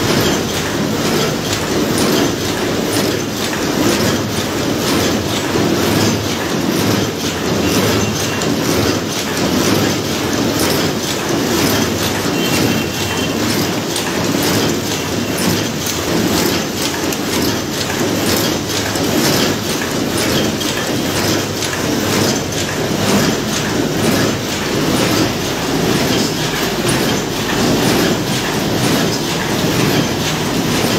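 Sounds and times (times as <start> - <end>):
machine rapid mechanical clatter: 0.0 - 30.9.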